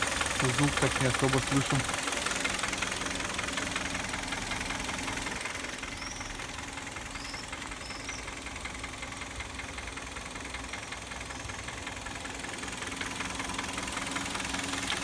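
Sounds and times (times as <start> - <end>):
car engine idling: 0.0 - 15.0
fast ticking engine knock: 0.0 - 15.0.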